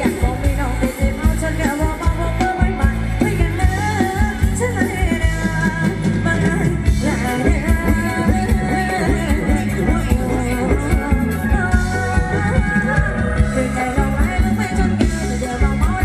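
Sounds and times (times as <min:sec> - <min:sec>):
driving drum beat: 0:00.0 - 0:16.0
live band playing dance music: 0:00.0 - 0:16.0
person singing: 0:00.0 - 0:16.0.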